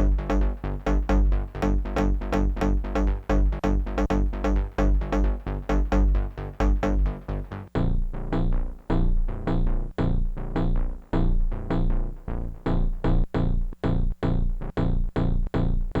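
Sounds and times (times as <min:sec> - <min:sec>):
looping bass line: 0:00.0 - 0:16.0.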